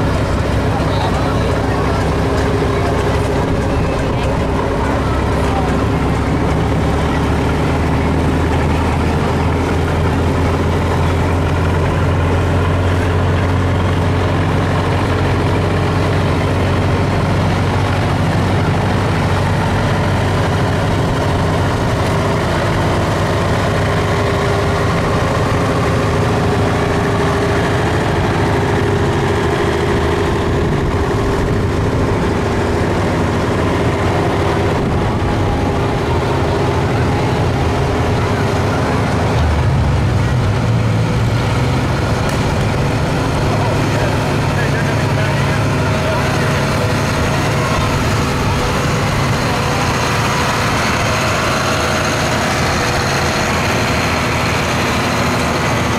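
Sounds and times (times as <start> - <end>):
tractor engines droning: 0.0 - 55.9.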